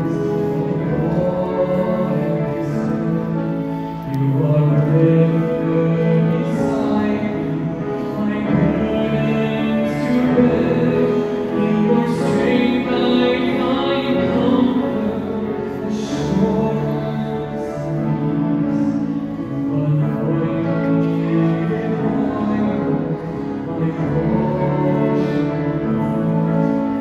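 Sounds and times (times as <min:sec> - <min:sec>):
keyboard: 0:00.0 - 0:27.0
piano: 0:00.0 - 0:27.0
sustained singing: 0:00.0 - 0:27.0.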